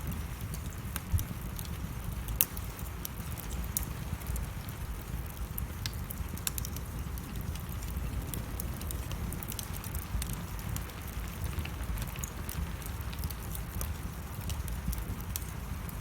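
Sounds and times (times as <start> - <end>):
rain falling: 0.0 - 16.0
wood fire crackling: 0.0 - 16.0.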